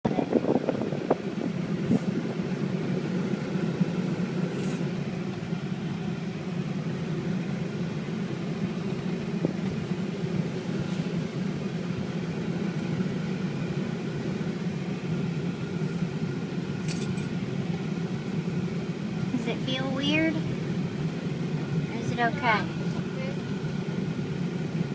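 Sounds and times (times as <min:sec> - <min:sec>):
truck engine and road drone: 0:00.0 - 0:24.9.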